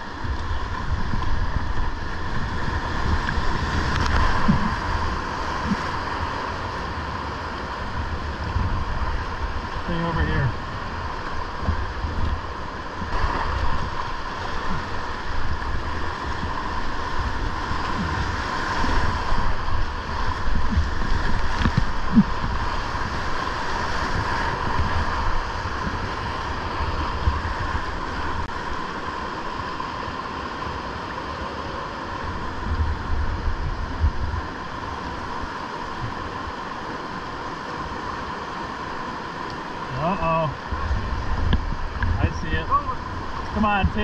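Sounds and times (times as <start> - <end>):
wind buffeting microphone: 0.0 - 29.0, 32.1 - 36.5, 40.6 - 44.0
rapids rushing: 0.0 - 44.0.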